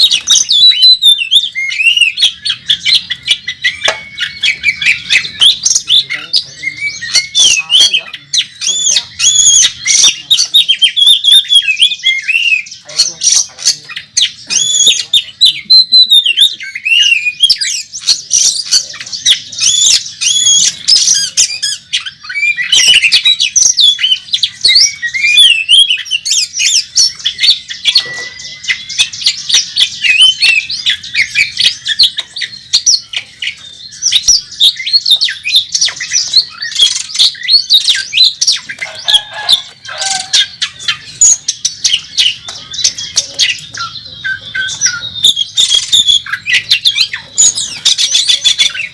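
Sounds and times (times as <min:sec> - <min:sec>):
magpie-robin singing: 0:00.0 - 0:48.9.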